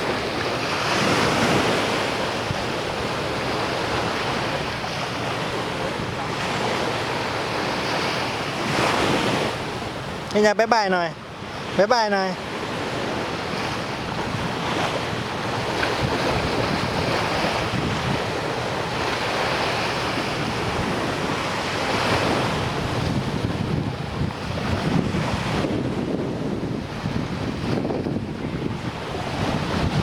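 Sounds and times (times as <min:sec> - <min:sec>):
wind buffeting microphone: 0:00.0 - 0:10.3, 0:12.8 - 0:30.0
sea waves breaking on beach: 0:00.0 - 0:30.0.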